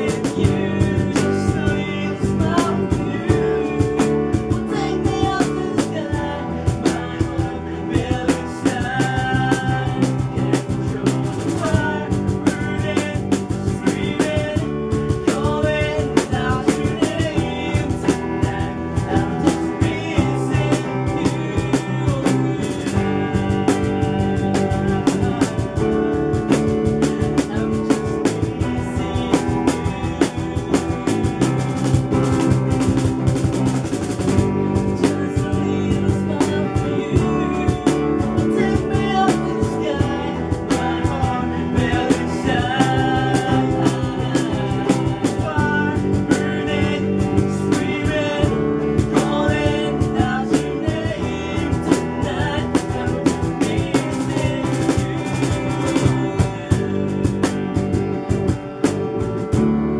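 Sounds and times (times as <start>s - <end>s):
man singing: 0.0s - 59.8s
cajon beat: 0.0s - 59.9s
electric bass: 0.0s - 59.9s
electric guitar: 0.0s - 59.9s.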